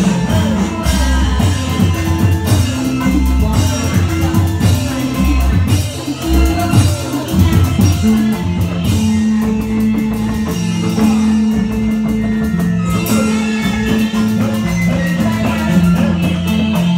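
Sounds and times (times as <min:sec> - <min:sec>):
amplified music over loudspeakers: 0:00.0 - 0:16.9
person singing: 0:00.0 - 0:16.9
steady drum beat: 0:00.0 - 0:16.9.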